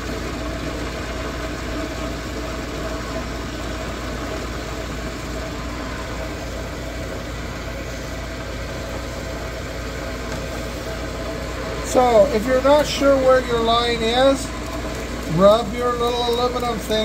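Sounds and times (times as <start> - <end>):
grinding machine motor humming: 0.0 - 17.0.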